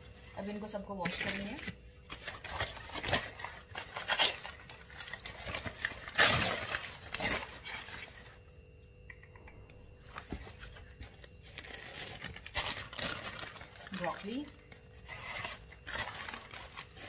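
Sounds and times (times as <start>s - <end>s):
plastic packaging crinkling: 0.0s - 8.4s, 10.0s - 17.0s.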